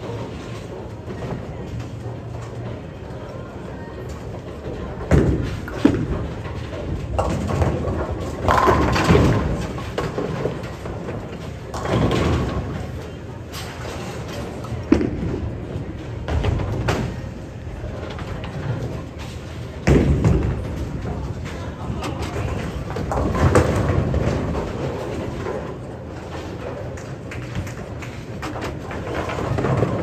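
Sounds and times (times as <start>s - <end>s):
background chatter: 0.0s - 8.5s, 9.6s - 28.4s
bowling balls hitting lanes: 4.4s - 30.0s.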